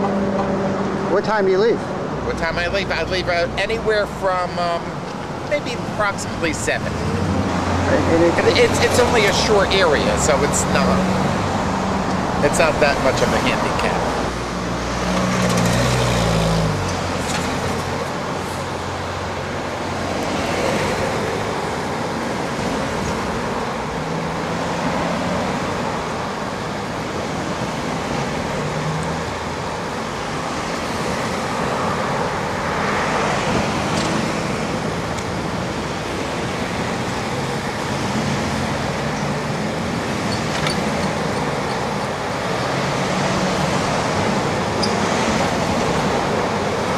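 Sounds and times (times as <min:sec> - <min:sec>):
cars and trucks driving past: 0:00.0 - 0:46.9.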